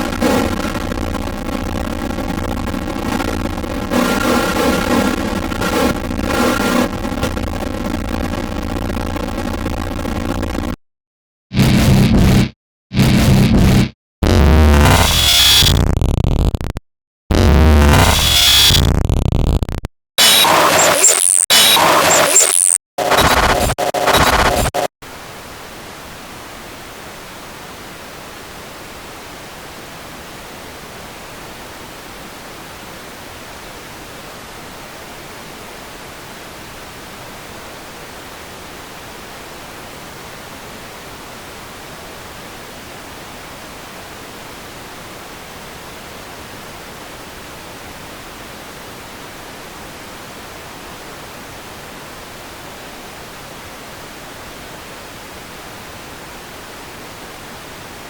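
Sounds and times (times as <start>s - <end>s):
static hiss: 0.0s - 10.2s, 20.2s - 58.0s.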